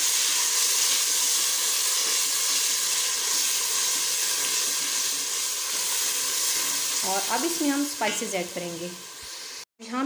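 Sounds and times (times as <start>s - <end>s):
food sizzling in hot oil: 0.0s - 9.7s.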